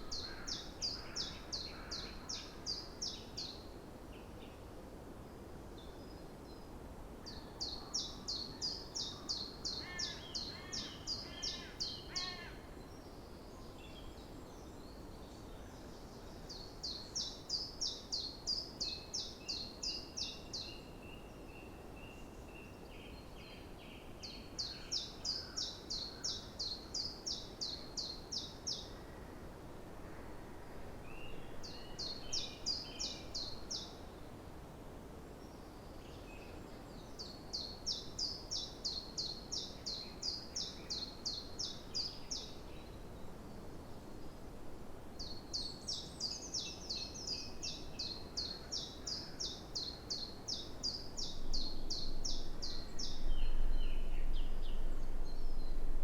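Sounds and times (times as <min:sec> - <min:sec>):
low background hiss: 0:00.0 - 0:56.0.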